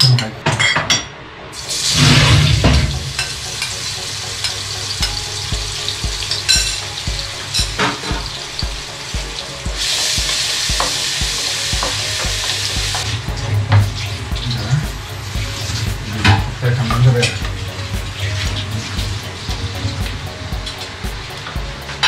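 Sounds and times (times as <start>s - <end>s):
food sizzling in oil: 1.6s - 21.4s.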